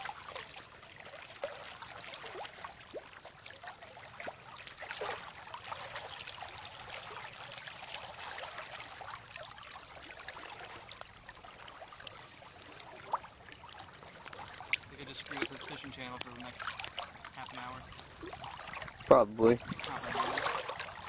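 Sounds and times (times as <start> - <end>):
river water babbling: 0.0 - 21.0.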